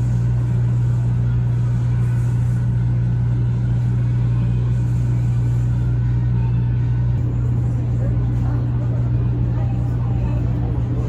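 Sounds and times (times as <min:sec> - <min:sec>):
train cabin rumble and hum: 0:00.0 - 0:11.0.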